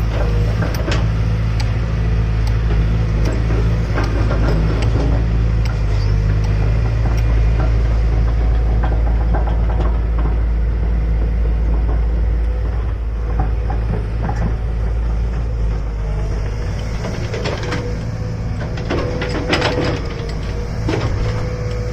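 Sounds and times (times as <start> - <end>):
excavator diesel engine: 0.0 - 21.9.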